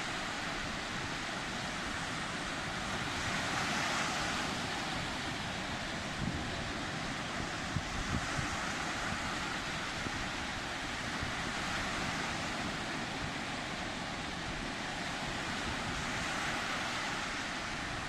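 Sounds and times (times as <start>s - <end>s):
sea surf washing: 0.0s - 18.0s
wind noise on microphone: 0.0s - 18.0s.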